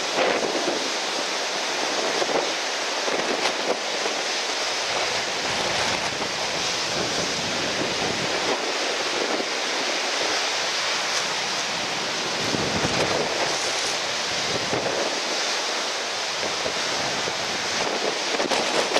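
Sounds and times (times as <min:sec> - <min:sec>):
strong wind: 0:00.0 - 0:18.9
surf washing: 0:00.0 - 0:18.9.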